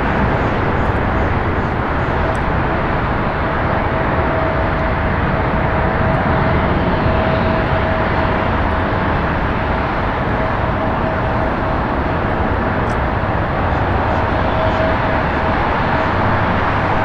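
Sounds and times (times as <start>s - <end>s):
jet engines at takeoff power: 0.0s - 17.0s
thin steady engine tone: 0.0s - 17.0s.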